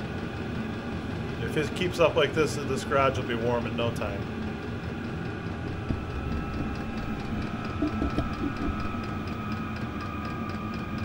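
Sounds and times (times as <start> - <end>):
air heater rumbling: 0.0 - 11.0
fan whine: 0.0 - 11.0.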